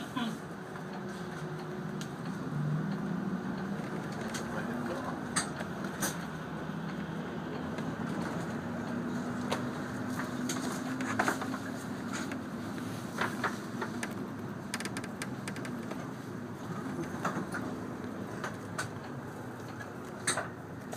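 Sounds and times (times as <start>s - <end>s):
bus body rattles and clicks: 0.0s - 20.9s
bus engine hum: 0.0s - 20.9s.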